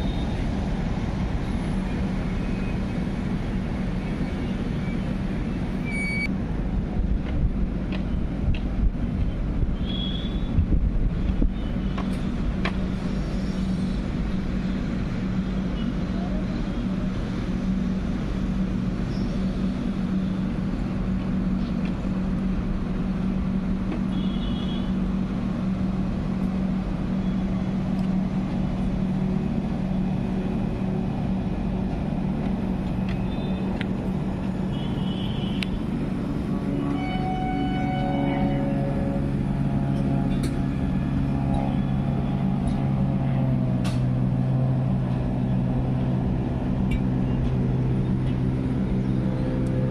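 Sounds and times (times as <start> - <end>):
train rumbling slowly: 0.0 - 49.9.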